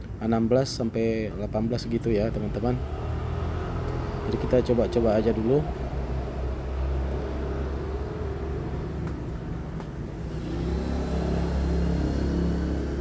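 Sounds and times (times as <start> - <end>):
vehicle engine rumble: 0.8 - 13.0.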